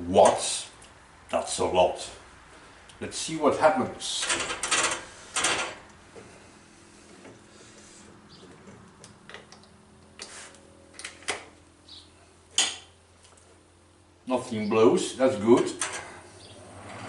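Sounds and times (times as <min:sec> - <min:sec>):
fan heater motor humming: 0:00.0 - 0:17.0.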